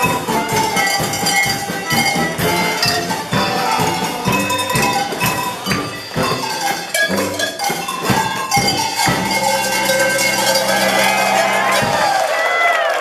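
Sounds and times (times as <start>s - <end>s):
tuned cowbells polka melody: 0.0s - 12.5s.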